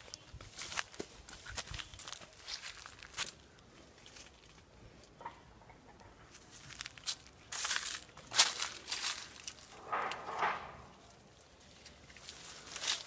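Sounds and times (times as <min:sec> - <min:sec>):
leaves rustling and crackling: 0:00.0 - 0:04.7, 0:06.3 - 0:13.0.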